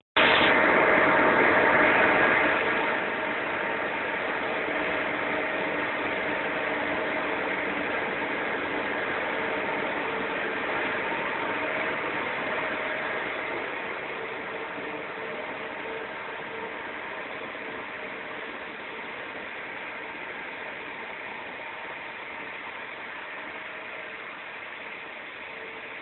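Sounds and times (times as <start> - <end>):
industrial machinery drone: 0.2 - 26.0.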